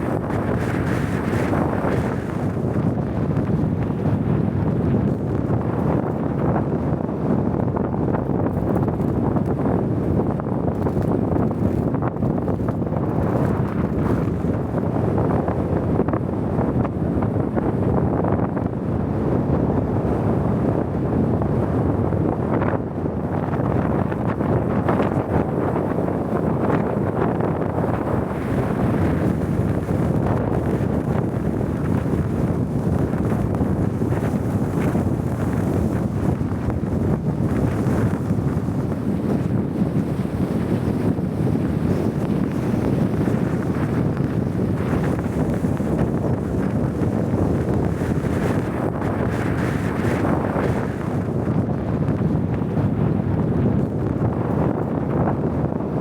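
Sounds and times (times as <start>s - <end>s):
strong wind rumbling on microphone: 0.0s - 56.0s.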